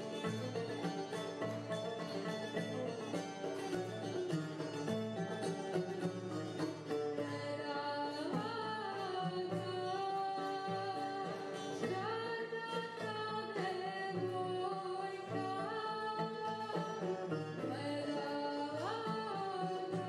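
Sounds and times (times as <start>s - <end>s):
plucked lute: 0.0s - 20.0s.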